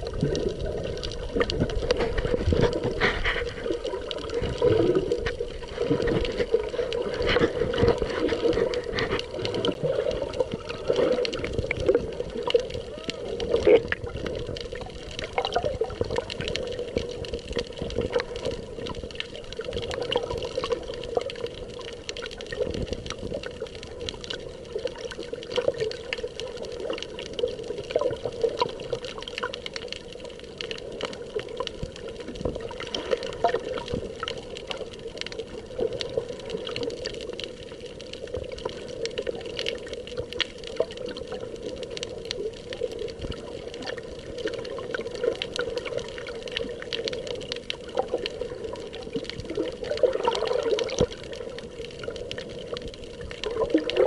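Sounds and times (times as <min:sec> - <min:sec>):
small underwater clicks and crackles: 0:00.0 - 0:54.0
underwater water wash: 0:00.0 - 0:54.0.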